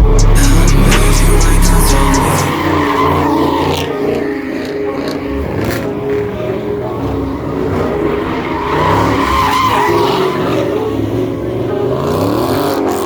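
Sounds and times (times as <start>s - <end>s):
car engine revving: 0.0s - 13.0s
car tyres squealing: 0.2s - 13.0s.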